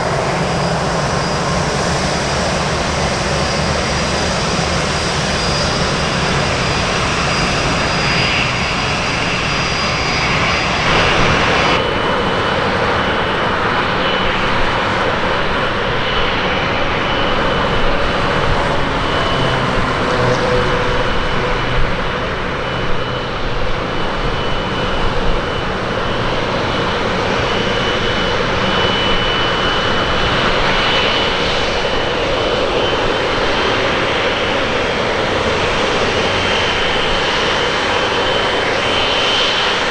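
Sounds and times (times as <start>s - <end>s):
high engine whine: 0.0s - 39.9s
jet engines roaring: 0.0s - 39.9s.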